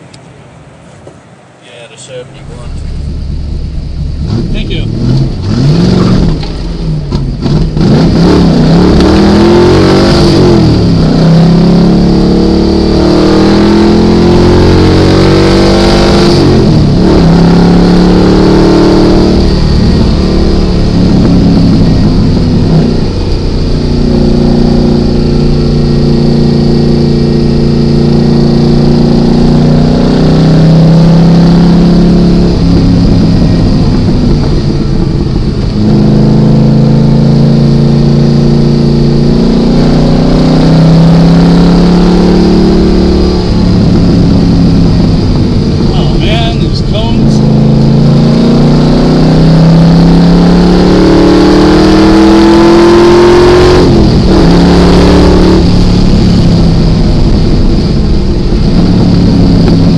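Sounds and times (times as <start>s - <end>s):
car engine revving through gears: 2.4s - 59.9s.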